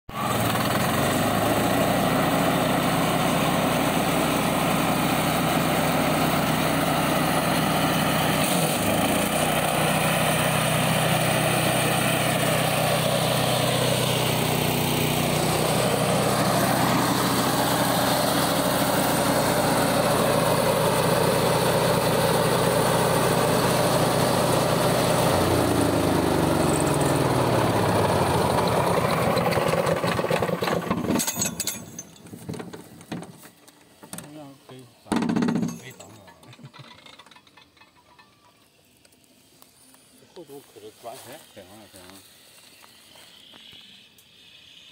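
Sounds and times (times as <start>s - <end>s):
petrol mower engine running: 0.1s - 44.4s.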